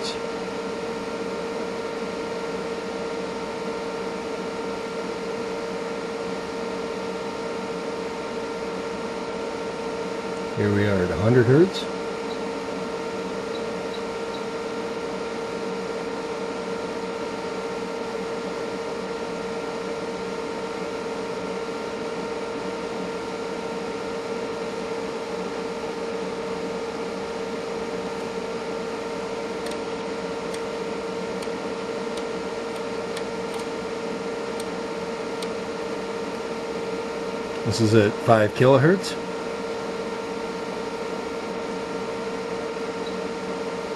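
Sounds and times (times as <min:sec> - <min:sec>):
electrical hum of test equipment: 0:00.0 - 0:43.9.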